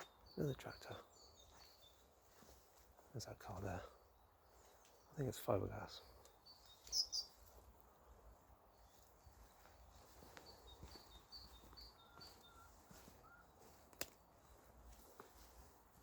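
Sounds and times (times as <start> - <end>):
faint outdoor background: 0.0 - 16.0
small birds chirping: 0.0 - 16.0.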